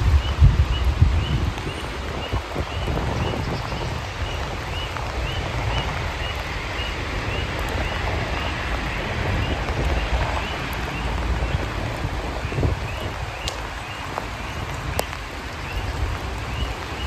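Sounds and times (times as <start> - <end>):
steady rain: 0.0 - 17.0
wind rumble on microphone: 0.0 - 17.0.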